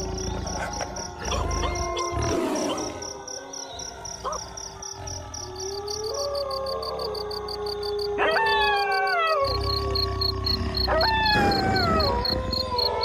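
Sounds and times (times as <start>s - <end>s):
insects chirping: 0.0s - 13.0s
wolves howling: 0.0s - 13.0s.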